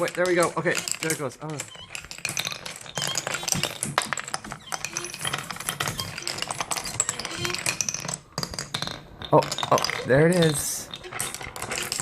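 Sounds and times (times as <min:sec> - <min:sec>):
marbles clacking on wooden tracks: 0:00.0 - 0:12.0.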